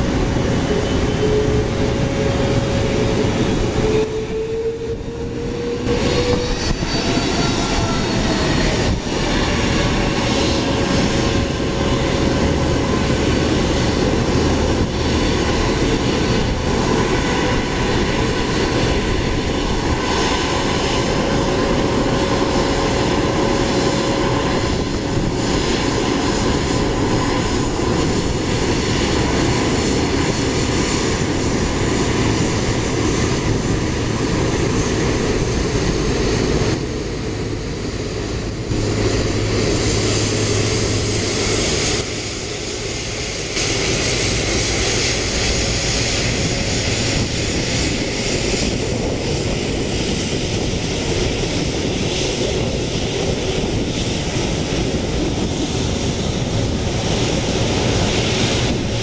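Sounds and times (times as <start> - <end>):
jet engine whine: 0.0 - 59.0.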